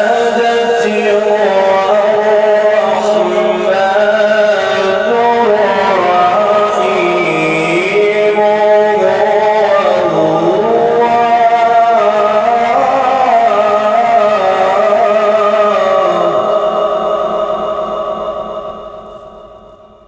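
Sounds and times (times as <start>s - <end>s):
man reciting melodically: 0.0s - 18.4s.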